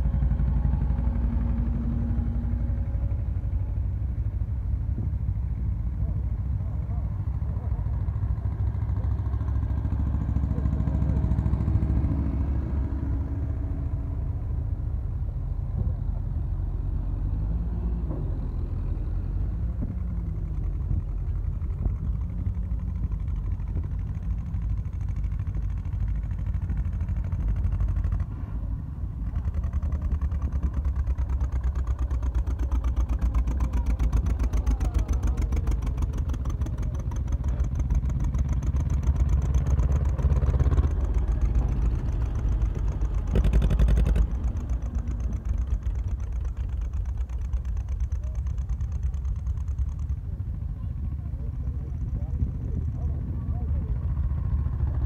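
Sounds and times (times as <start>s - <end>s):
single-cylinder tractor engine chugging: 0.0s - 17.2s, 18.3s - 55.0s
old tractor engines running: 0.0s - 55.0s.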